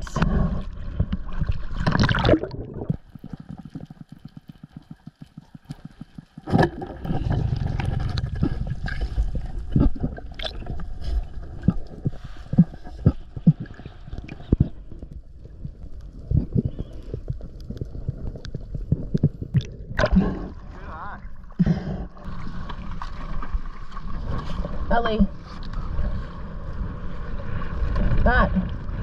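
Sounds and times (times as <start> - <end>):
muffled underwater rushing water: 0.0 - 29.0.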